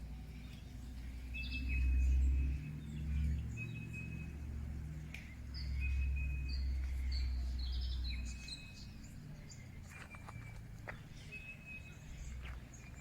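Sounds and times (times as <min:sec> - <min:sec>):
birds chirping and whistling: 0:00.3 - 0:04.5, 0:05.1 - 0:13.0.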